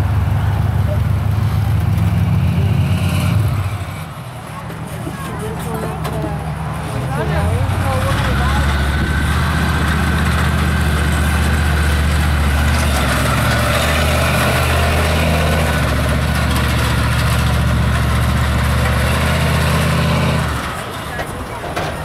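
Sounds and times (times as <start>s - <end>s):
monster truck engine running: 0.0s - 22.0s.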